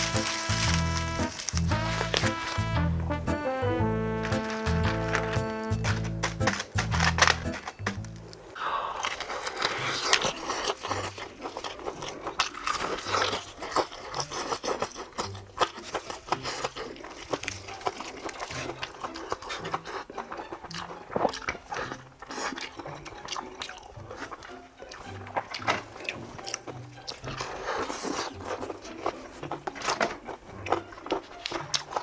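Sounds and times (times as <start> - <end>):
crunching and chewing fried chicken: 0.0 - 32.0.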